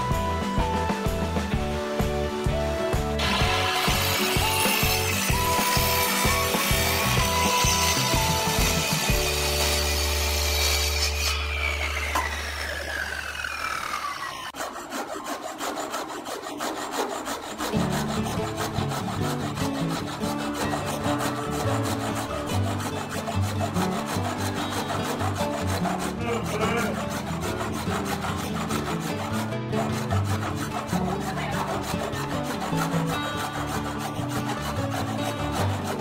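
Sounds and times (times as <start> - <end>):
background music: 0.0 - 11.5, 17.2 - 36.0
hand saw rasping through wood: 3.0 - 36.0.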